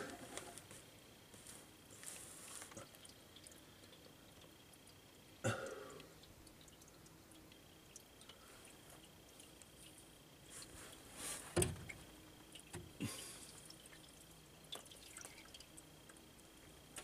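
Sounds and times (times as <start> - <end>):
fluid dripping and trickling: 2.1 - 17.0.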